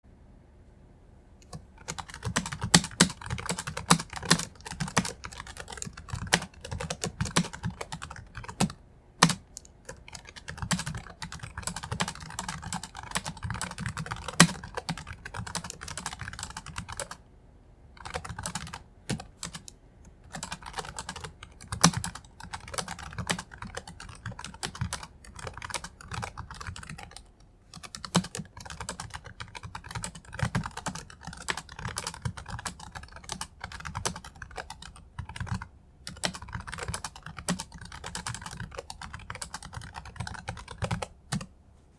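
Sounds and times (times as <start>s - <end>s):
typing on laptop keyboard: 1.4s - 17.2s, 18.0s - 41.5s.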